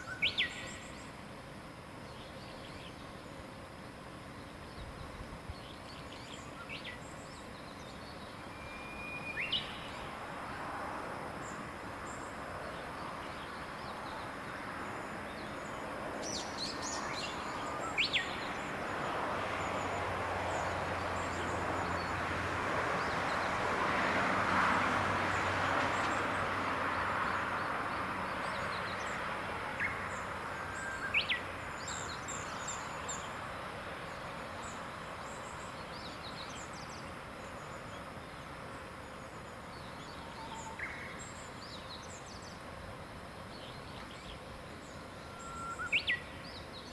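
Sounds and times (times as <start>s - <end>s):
distant engine hum: 0.0s - 46.9s.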